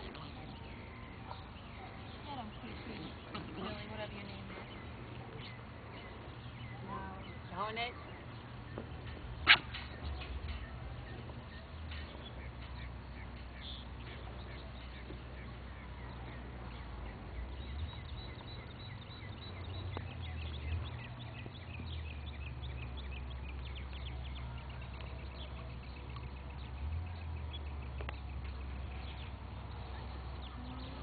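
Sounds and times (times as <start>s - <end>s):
bird chirping: 0.0s - 31.0s
low steady rumble: 0.0s - 31.0s.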